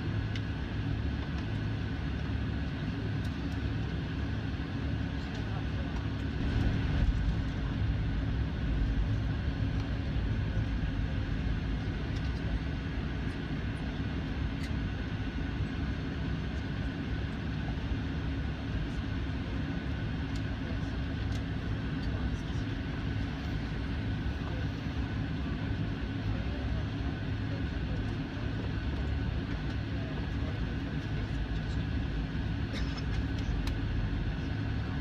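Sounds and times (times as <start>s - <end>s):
jet engines rumbling and humming: 0.0s - 35.0s.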